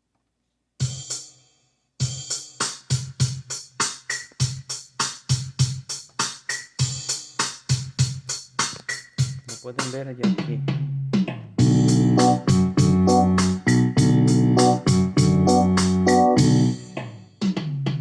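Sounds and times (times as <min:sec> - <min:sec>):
electronic drum beat: 0:02.0 - 0:18.0.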